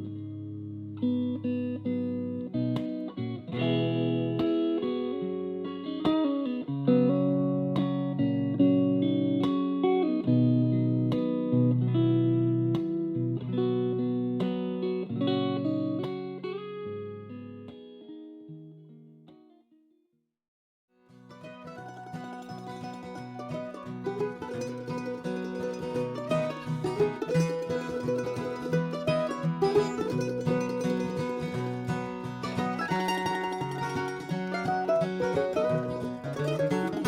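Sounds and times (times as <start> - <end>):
instrumental guitar music: 0.0 - 19.9, 21.0 - 37.0.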